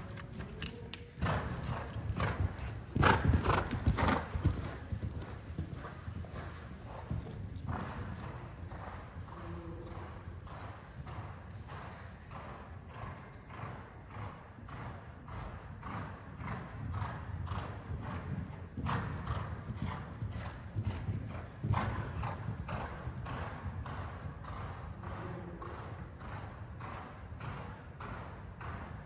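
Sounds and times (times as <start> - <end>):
horse hoofbeats on sand: 0.0 - 28.9.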